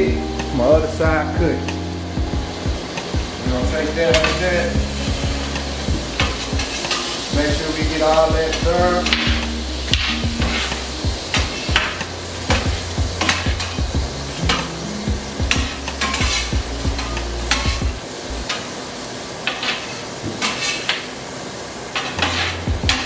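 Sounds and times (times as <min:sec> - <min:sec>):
steak sizzling on a griddle: 0:00.5 - 0:23.0.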